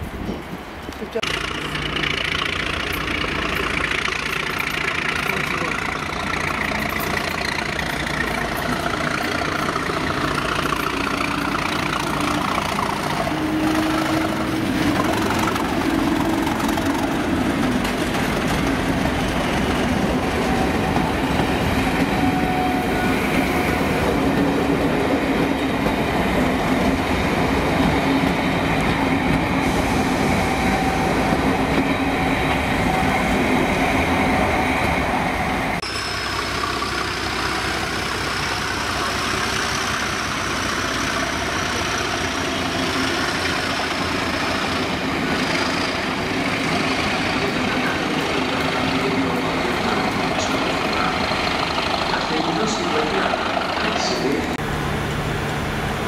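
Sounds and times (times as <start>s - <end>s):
train wheels rolling on rails: 0.0s - 56.0s
diesel locomotive engine running: 1.0s - 56.0s.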